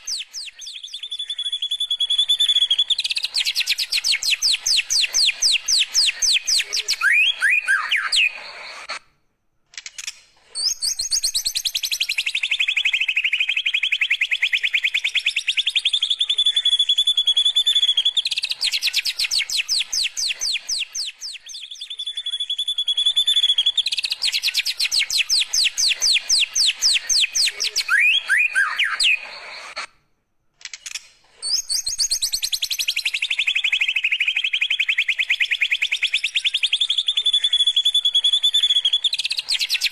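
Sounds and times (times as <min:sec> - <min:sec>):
songbird singing fast trills: 0:00.0 - 0:08.9, 0:10.6 - 0:29.8, 0:31.4 - 0:39.9.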